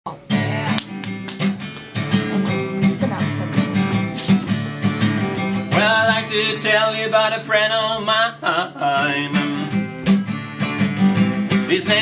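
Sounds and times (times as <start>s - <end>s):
acoustic guitar strumming: 0.1s - 12.0s.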